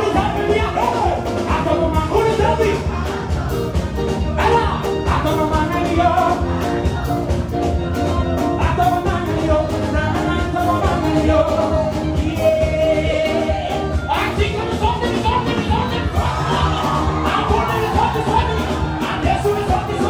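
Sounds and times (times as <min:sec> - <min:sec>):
loud dance music: 0:00.0 - 0:20.0
person singing: 0:00.0 - 0:20.0.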